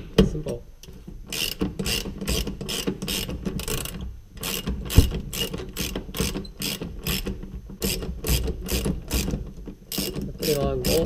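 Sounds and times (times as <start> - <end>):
ratchet wrench clicking: 1.3 - 9.3, 9.9 - 11.0.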